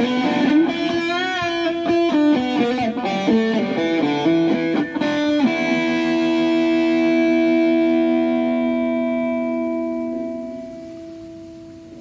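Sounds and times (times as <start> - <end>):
overdriven electric guitar chord ringing: 0.0 - 12.0.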